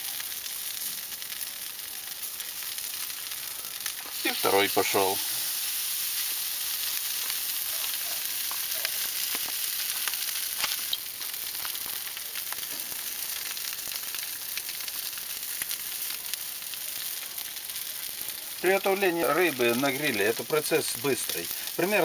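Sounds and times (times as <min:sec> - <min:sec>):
fish sizzling on a grill: 0:00.0 - 0:22.0.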